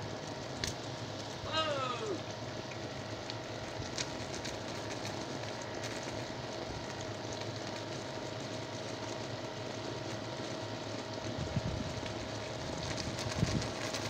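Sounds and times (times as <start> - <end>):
sharp crackles: 0.2 - 2.0, 2.6 - 14.0.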